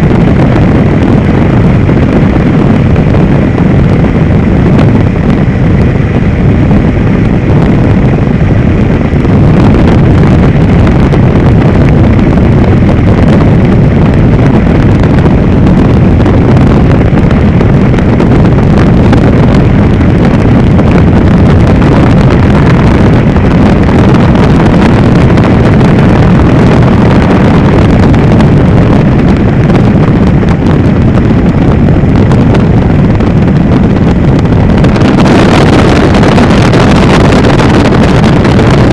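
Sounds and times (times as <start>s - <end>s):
helicopter rotor and engine drone: 0.0s - 38.9s
wind buffeting microphone: 0.0s - 38.9s.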